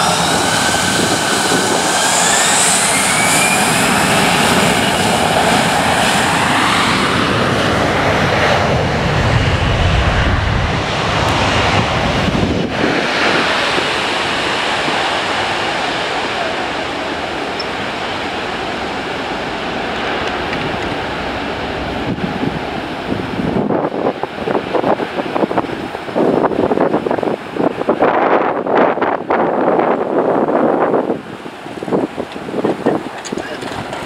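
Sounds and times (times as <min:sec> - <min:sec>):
jet engines rumbling: 0:00.0 - 0:34.0
wind buffeting microphone: 0:00.0 - 0:34.0.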